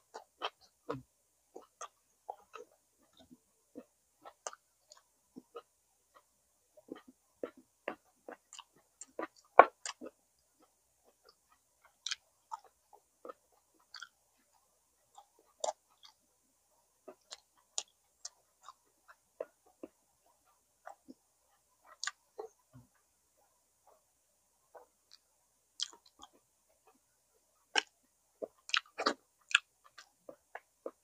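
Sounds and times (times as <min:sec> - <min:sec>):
wet chewing clicks and smacks: 0:01.6 - 0:16.2, 0:17.1 - 0:21.2, 0:21.9 - 0:22.6, 0:24.8 - 0:27.0, 0:27.8 - 0:31.0.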